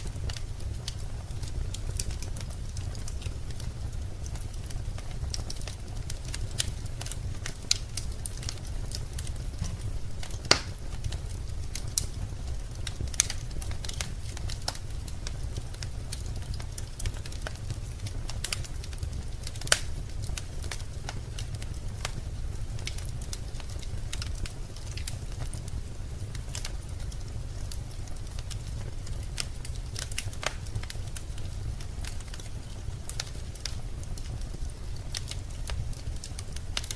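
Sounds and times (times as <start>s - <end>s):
fire low rumble: 0.0s - 36.9s
wood fire crackling and popping: 0.0s - 36.9s.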